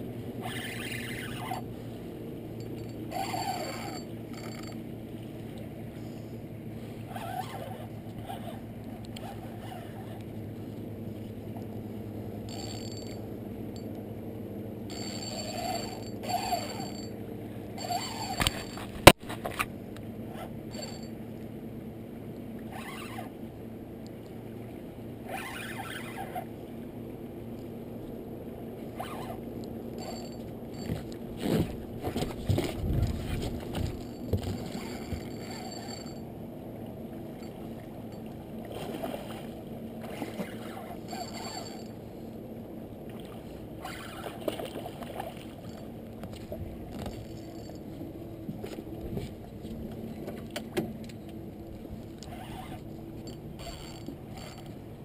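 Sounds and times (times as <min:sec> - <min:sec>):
boat motor humming: 0:00.0 - 0:55.0.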